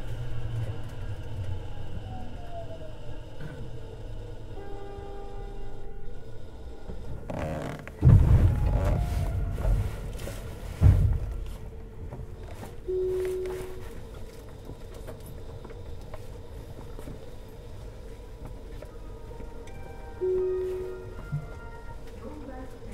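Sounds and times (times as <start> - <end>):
electric train rumbling: 0.0 - 22.9.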